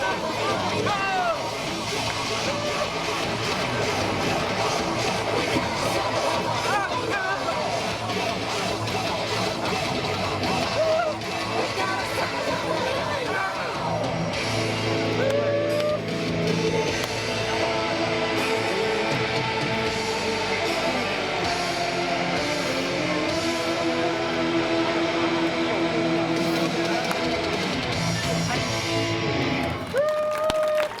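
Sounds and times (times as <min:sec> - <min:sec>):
live rock music over a pa: 0:00.0 - 0:29.8
distorted electric guitar: 0:00.0 - 0:29.9.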